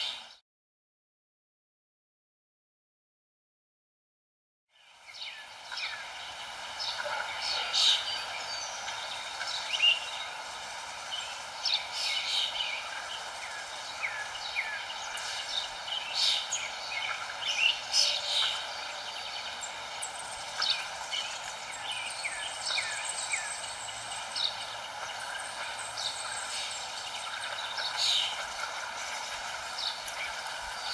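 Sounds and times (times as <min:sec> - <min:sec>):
steady outdoor hiss: 0:00.0 - 0:00.4, 0:04.8 - 0:30.9
small songbirds chirping: 0:04.7 - 0:30.9.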